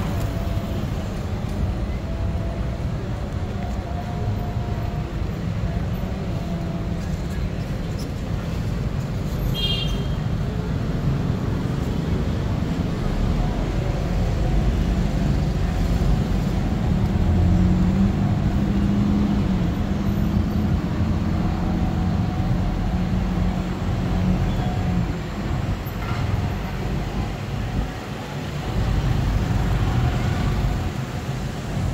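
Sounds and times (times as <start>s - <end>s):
bus engine rumble: 0.0s - 31.9s
city traffic: 0.0s - 31.9s.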